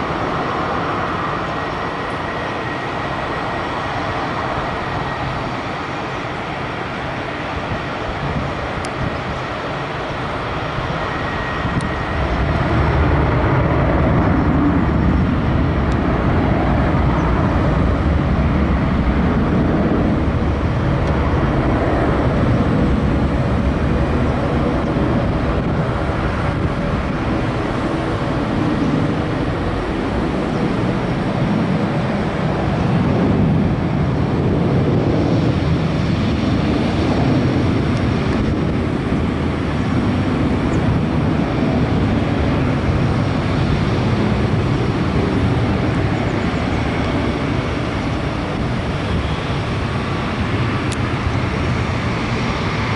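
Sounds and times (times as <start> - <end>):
jet engines at take-off power: 0.0 - 52.9.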